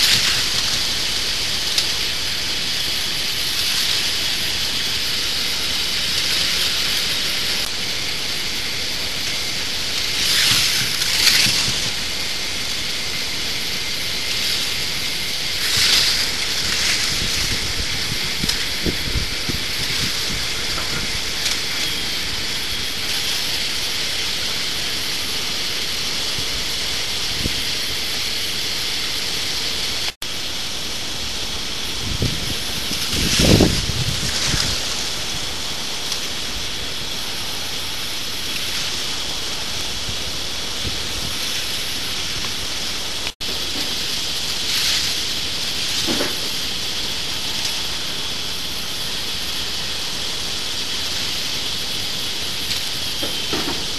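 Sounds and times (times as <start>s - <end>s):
steady rushing hiss: 0.0s - 53.9s.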